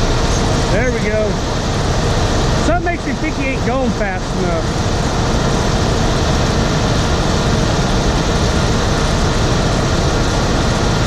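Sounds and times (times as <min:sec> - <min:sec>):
heavy farm machinery running: 0:00.0 - 0:11.0.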